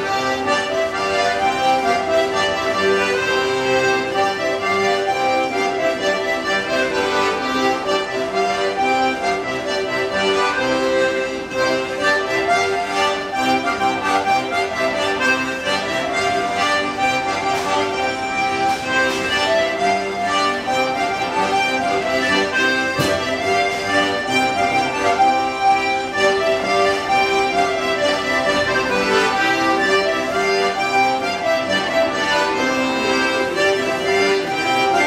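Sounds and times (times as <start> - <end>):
accordions playing folk dance tune: 0.0 - 35.0.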